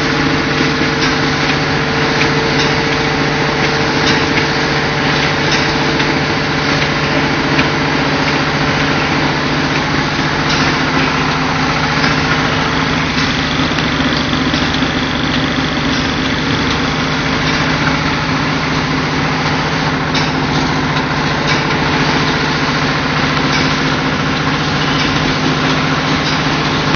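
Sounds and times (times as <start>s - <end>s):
machinery humming: 0.0s - 26.9s.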